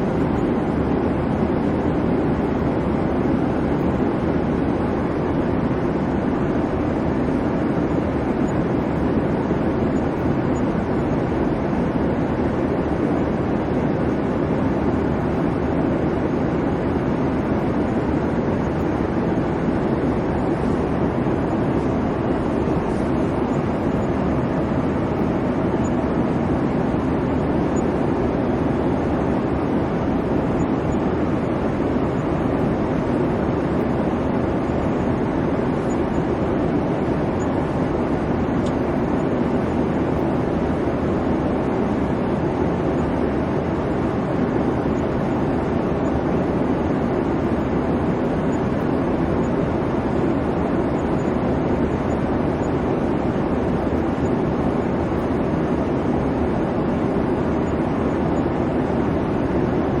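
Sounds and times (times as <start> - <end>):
airliner cabin engine hum: 0.0 - 60.0.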